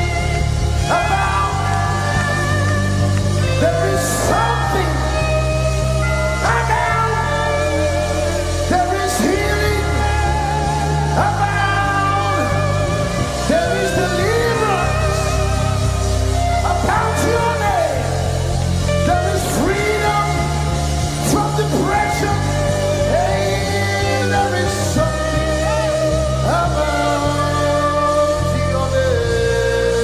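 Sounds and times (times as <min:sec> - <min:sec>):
live gospel worship band: 0:00.0 - 0:30.0
steady bass: 0:00.0 - 0:30.0.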